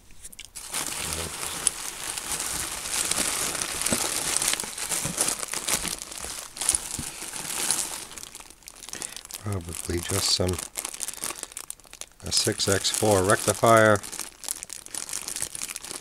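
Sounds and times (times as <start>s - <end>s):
bubble wrap and plastic bag crinkling: 0.4s - 16.0s.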